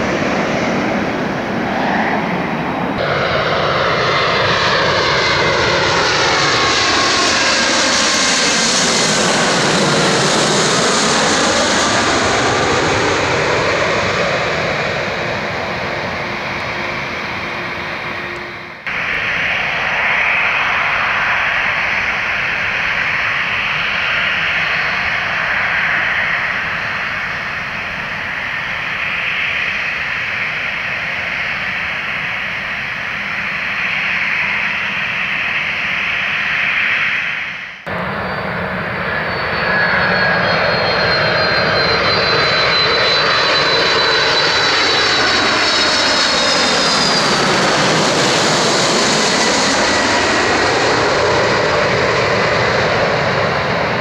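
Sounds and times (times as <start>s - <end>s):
airliner jet engines roaring: 0.0s - 54.0s
jet airliner passing overhead: 0.0s - 54.0s.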